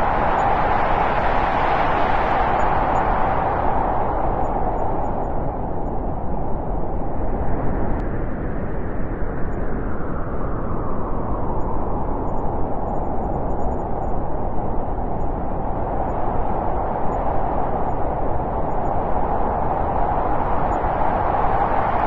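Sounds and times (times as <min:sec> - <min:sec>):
wind rushing: 0:00.0 - 0:22.0.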